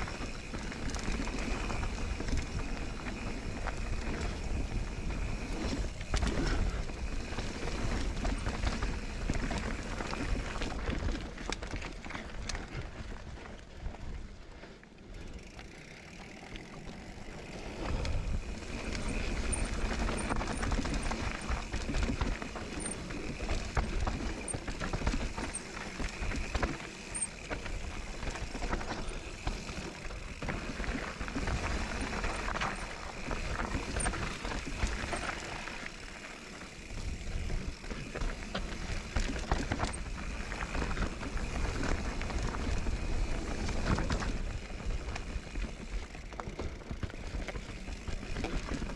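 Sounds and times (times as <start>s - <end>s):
bike chain and frame rattling: 0.0s - 14.0s, 15.1s - 48.9s
bike tyres rolling over dirt: 0.0s - 48.9s.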